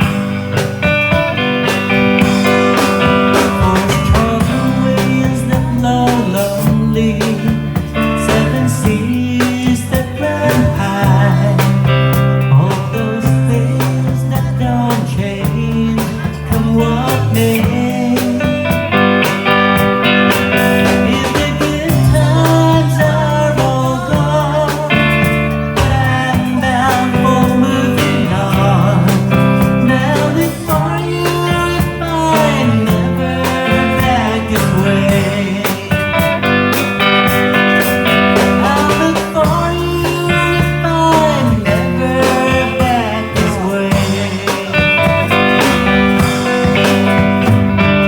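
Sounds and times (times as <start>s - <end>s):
country-folk band music: 0.0s - 48.0s
sliding lead guitar line: 0.0s - 48.0s.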